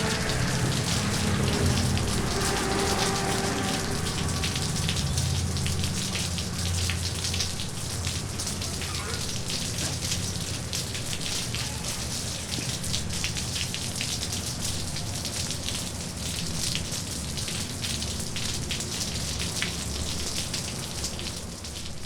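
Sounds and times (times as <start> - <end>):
distant traffic rumble: 0.0 - 22.0
rain pattering on pavement: 0.0 - 22.0.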